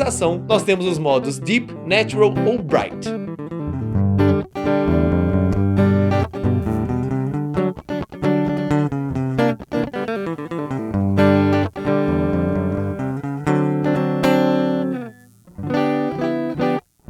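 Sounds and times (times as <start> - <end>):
guitar plucked notes and chords: 0.0 - 17.0.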